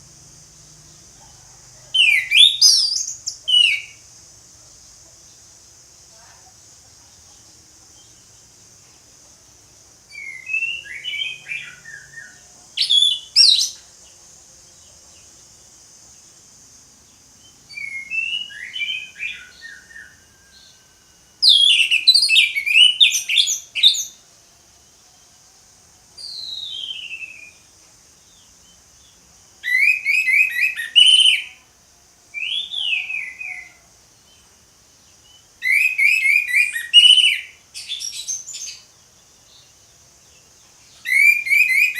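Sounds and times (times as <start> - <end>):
steady high hiss: 0.0 - 41.9.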